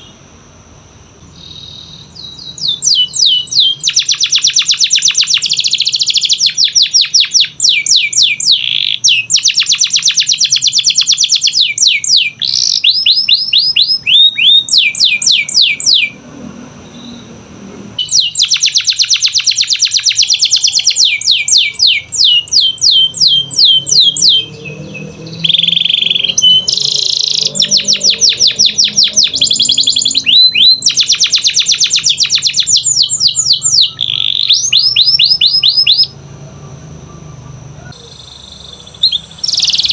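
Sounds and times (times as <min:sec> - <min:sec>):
canary singing trills: 0:00.0 - 0:00.3, 0:01.2 - 0:16.2, 0:16.8 - 0:17.4, 0:18.0 - 0:39.9.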